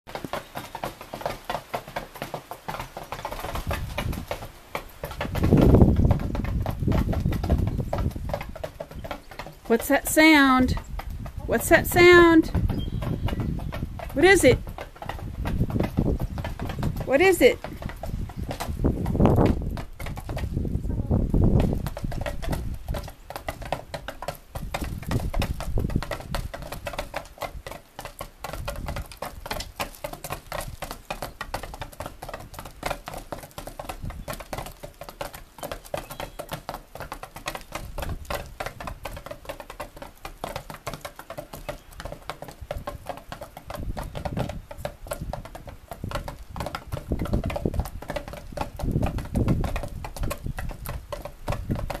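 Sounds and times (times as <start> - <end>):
beaks tapping rapidly: 2.0 - 20.6, 21.6 - 52.0.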